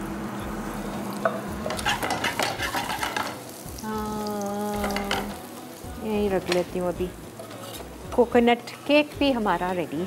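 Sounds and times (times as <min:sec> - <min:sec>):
onion and garlic sizzling in oil: 0:00.0 - 0:10.0.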